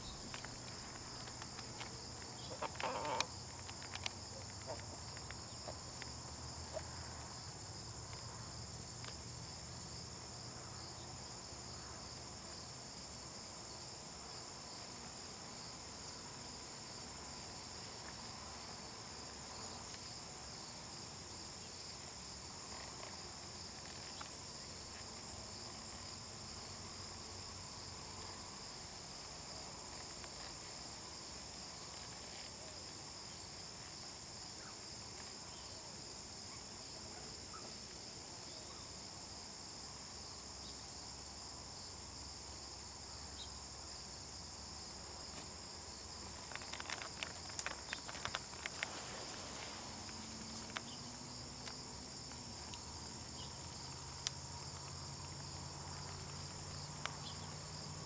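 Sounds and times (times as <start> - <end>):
insect chorus chirring: 0.0 - 58.0.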